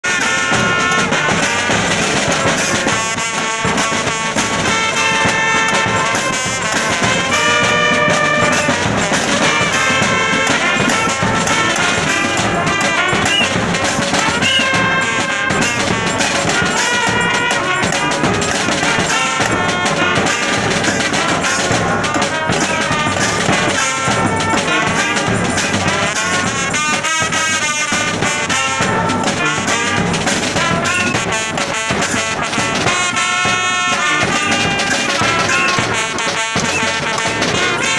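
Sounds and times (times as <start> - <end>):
brass horns playing melody: 0.0 - 37.9
snare and bass drums: 0.0 - 37.9.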